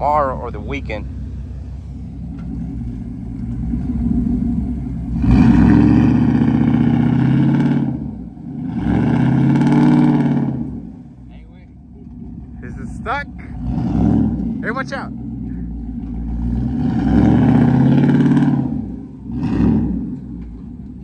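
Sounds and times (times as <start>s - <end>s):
pickup engine revving: 0.0s - 21.0s.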